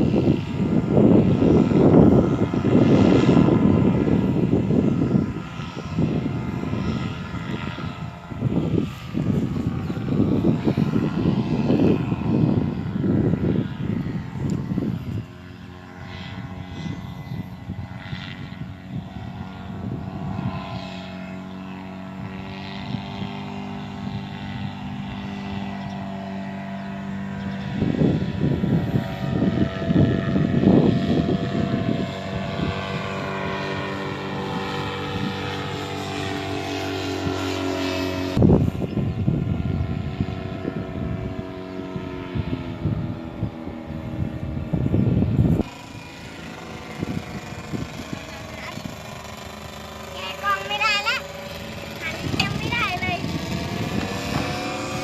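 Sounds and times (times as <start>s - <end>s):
paramotor engine droning: 0.0s - 55.0s
wind buffeting microphone: 0.0s - 55.0s.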